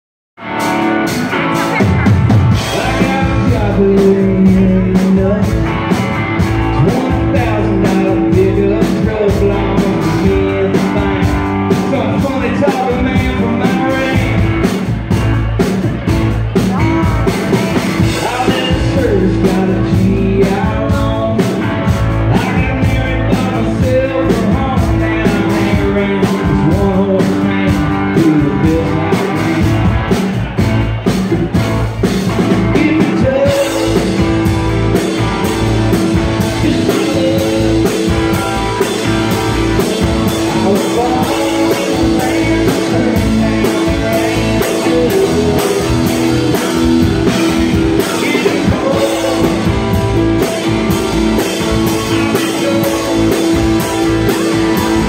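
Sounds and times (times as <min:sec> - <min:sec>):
band with steady beat: 0:00.4 - 0:55.0
man singing: 0:02.5 - 0:30.6, 0:32.3 - 0:55.0.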